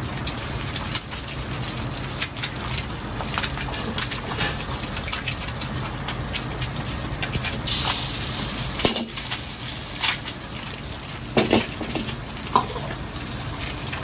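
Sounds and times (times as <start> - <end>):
food frying with crackles: 0.0 - 14.0
stove hum: 0.0 - 14.0.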